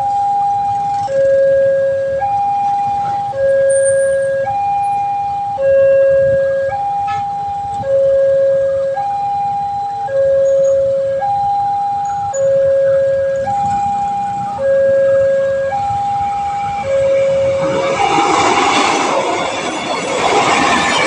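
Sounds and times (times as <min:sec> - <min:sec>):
two-tone level crossing alarm: 0:00.0 - 0:21.0.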